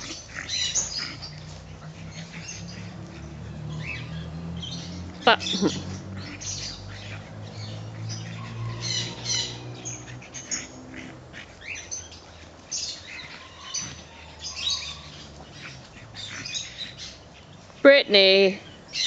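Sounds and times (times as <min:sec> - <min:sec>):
birds chirping and squeaking: 0:00.0 - 0:19.0.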